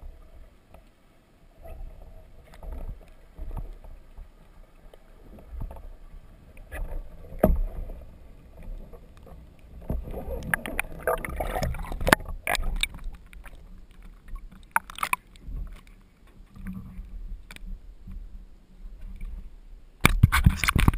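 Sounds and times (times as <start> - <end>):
water sloshing and splashing: 0.0 - 20.9.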